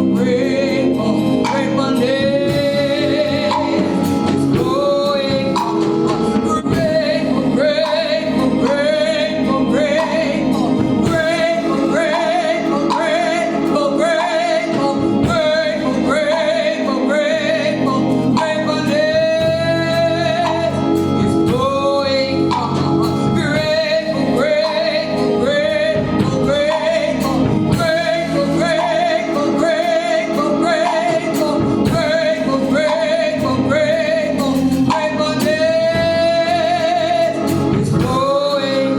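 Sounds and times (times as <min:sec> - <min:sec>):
instrumental accompaniment: 0:00.0 - 0:38.9
man singing: 0:00.0 - 0:38.9.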